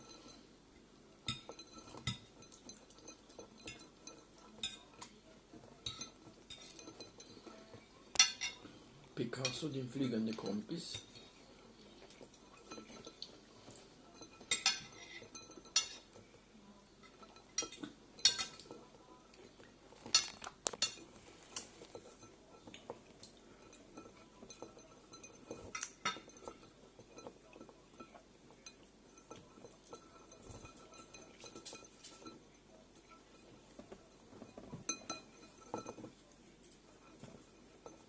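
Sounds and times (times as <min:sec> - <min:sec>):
clinks and taps on glass dish: 0:01.2 - 0:08.7, 0:12.1 - 0:16.3, 0:17.0 - 0:19.0, 0:20.0 - 0:38.0.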